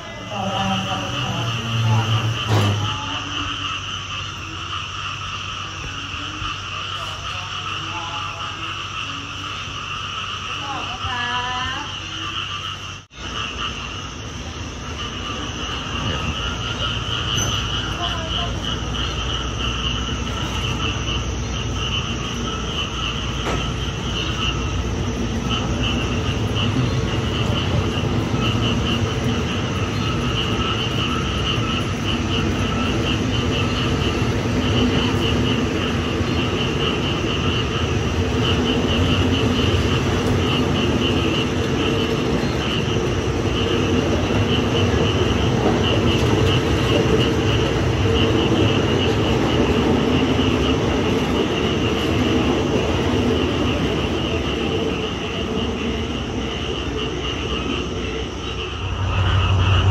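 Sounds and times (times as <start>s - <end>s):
insects chirping: 0.0s - 59.9s
train wheels rumbling: 0.0s - 59.9s.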